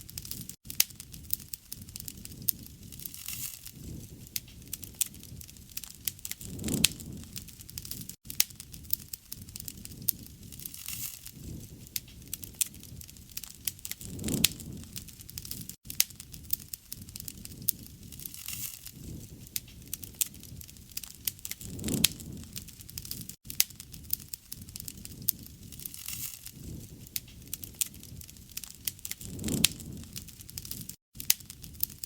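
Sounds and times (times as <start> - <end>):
campfire crackling and popping: 0.0 - 32.0
rush of flame: 0.0 - 32.0.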